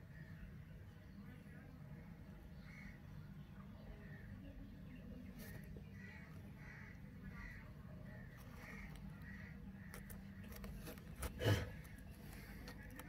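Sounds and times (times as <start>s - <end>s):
faint bird calls: 0.0s - 13.0s
low steady hum: 0.0s - 13.0s.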